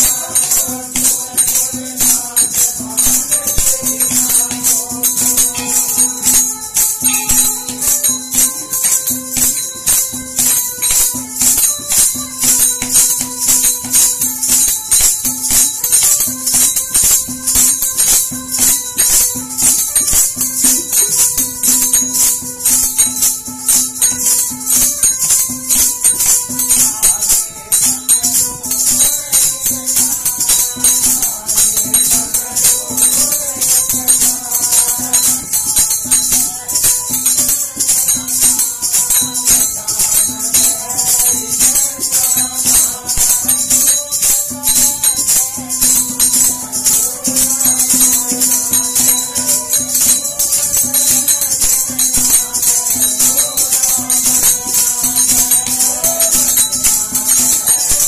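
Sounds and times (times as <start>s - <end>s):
tambourine jingling: 0.0s - 58.0s.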